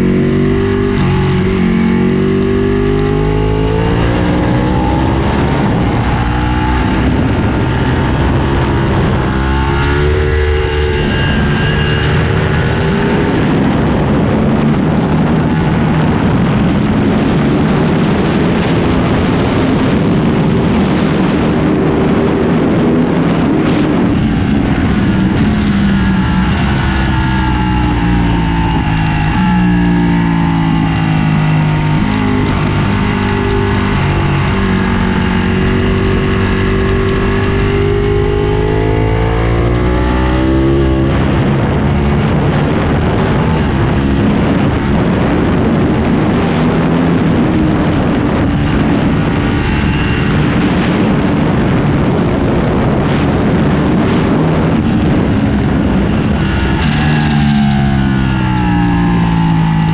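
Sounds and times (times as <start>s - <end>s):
motorcycle engine revving: 0.0s - 59.9s
rushing noise at speed: 0.0s - 59.9s.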